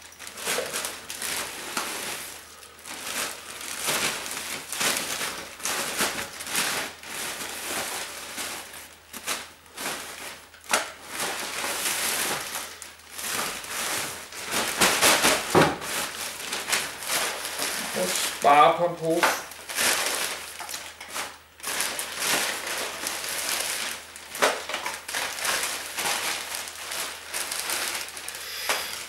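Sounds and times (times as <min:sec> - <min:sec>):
plastic bag rustling: 0:00.0 - 0:29.0.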